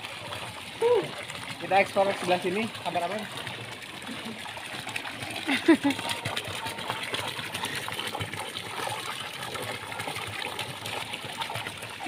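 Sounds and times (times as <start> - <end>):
person wading through water: 0.0 - 10.4
water running and splashing: 0.0 - 12.0.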